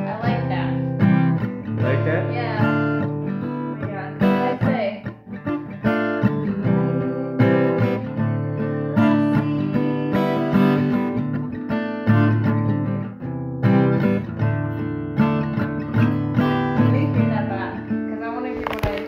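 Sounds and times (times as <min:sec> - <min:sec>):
acoustic guitar strummed chords: 0:00.0 - 0:19.0.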